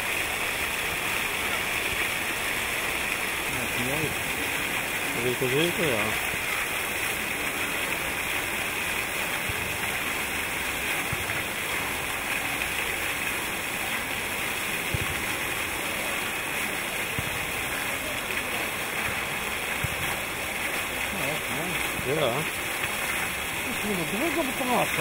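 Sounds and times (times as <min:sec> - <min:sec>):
fountain water splashing on paving: 0:00.0 - 0:25.0.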